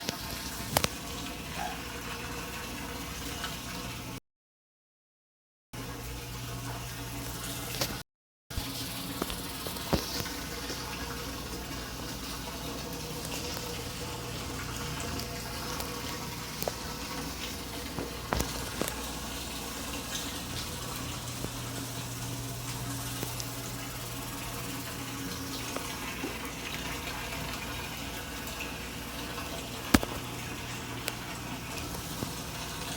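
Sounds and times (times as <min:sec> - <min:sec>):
washing machine hum: 0:00.0 - 0:04.2, 0:05.8 - 0:32.9
water splashing in washing machine: 0:00.0 - 0:04.2, 0:05.8 - 0:32.9.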